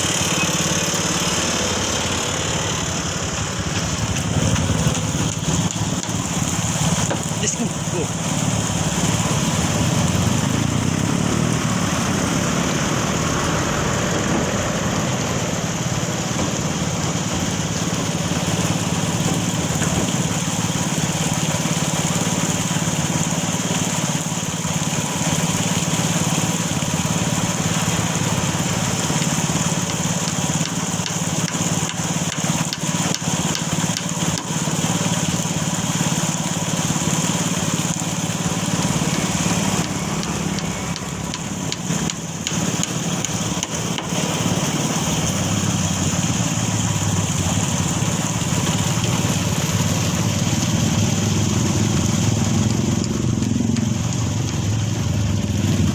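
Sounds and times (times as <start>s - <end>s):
heavy machinery engine running: 0.0s - 55.9s.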